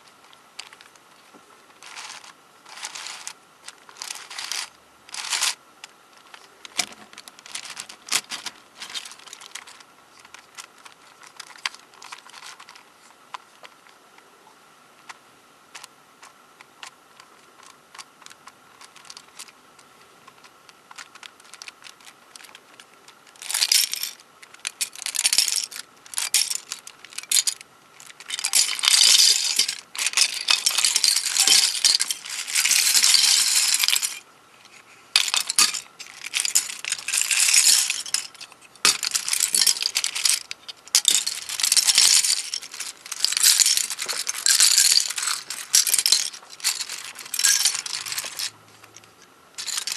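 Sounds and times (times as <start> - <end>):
plastic pieces clattering: 0.6 - 1.0, 1.7 - 5.6, 6.2 - 12.9, 15.7 - 19.6, 20.3 - 49.9.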